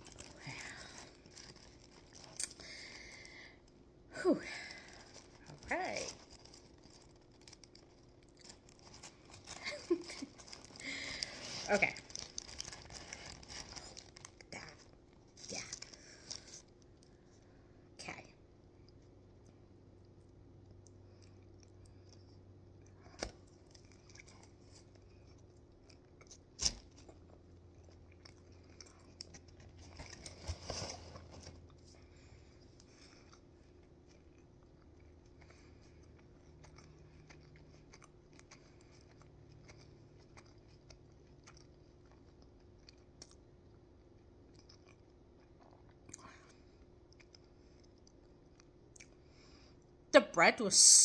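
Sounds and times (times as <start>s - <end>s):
faint chewing: 0.0s - 3.8s, 4.4s - 50.1s.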